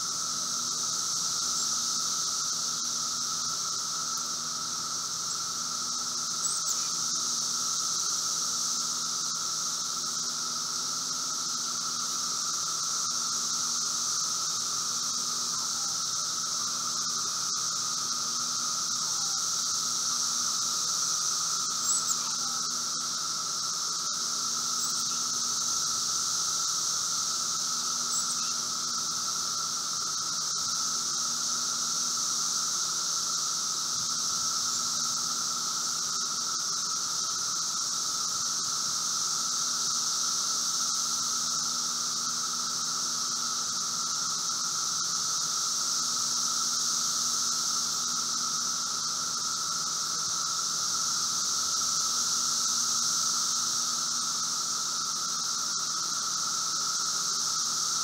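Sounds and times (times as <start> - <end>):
cicadas chorus: 0.0 - 58.0.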